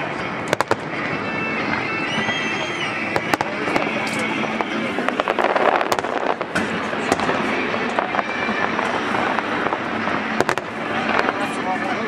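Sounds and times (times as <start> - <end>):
fireworks bangs and crackles: 0.0 - 12.0
steady wash of noise: 0.0 - 12.0.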